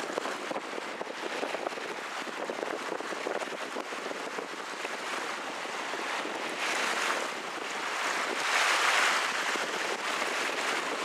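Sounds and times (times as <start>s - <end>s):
choppy lake water: 0.0s - 11.0s
strong wind: 0.0s - 11.0s.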